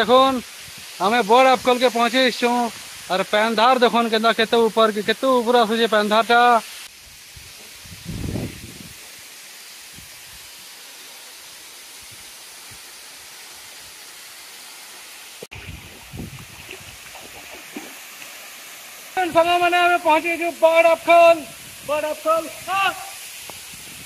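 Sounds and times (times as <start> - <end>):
waterfall rushing hiss: 0.0 - 24.0.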